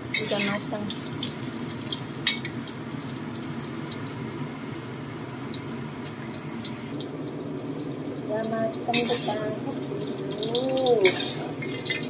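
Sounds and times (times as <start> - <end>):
eggplant sizzling in oil: 0.0 - 12.0.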